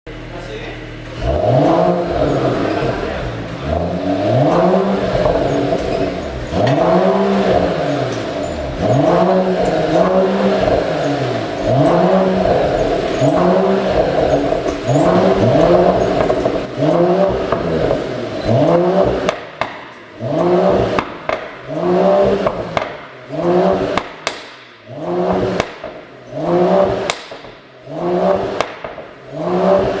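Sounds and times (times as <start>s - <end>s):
car engine revving: 0.1s - 30.0s
exhaust pops and crackles: 2.0s - 30.0s.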